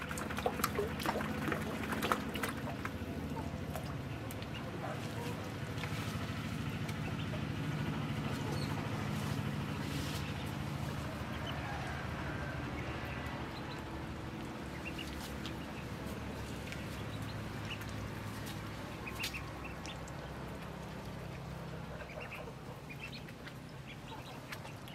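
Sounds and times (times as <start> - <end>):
steady low hum: 0.0 - 24.9
ducklings peeping: 0.1 - 24.9.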